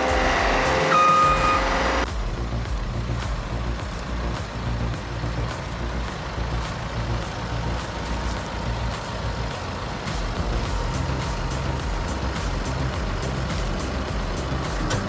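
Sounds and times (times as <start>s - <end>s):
background music with beat: 0.0s - 15.0s
heavy diesel machinery running: 0.0s - 15.0s.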